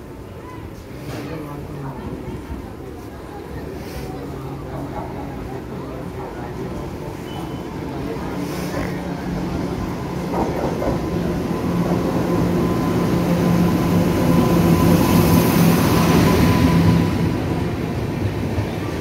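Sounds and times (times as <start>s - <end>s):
train rolling past: 0.0s - 19.0s.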